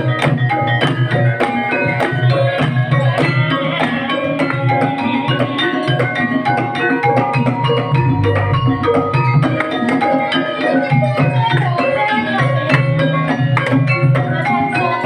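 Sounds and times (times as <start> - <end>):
hand drum strikes: 0.0 - 15.0
ringing bronze metallophones: 0.0 - 15.0.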